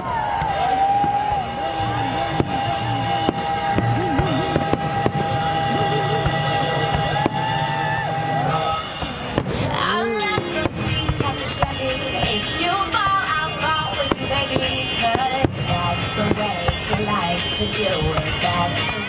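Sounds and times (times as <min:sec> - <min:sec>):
fireworks bangs: 0:00.0 - 0:19.0
pop music with singing: 0:01.9 - 0:19.0.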